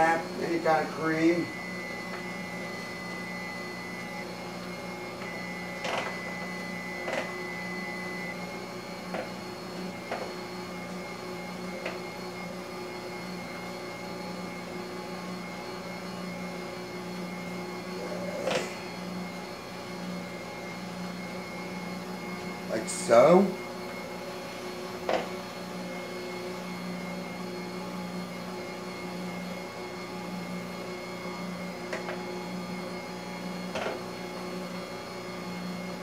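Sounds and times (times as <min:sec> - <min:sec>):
steady appliance hum: 0:00.0 - 0:36.0.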